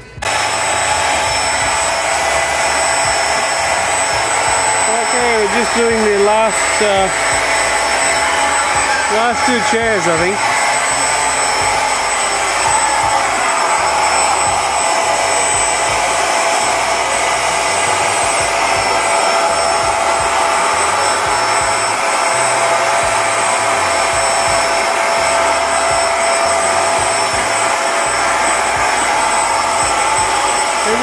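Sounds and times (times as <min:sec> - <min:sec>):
small electric motor whirring: 0:00.0 - 0:31.0.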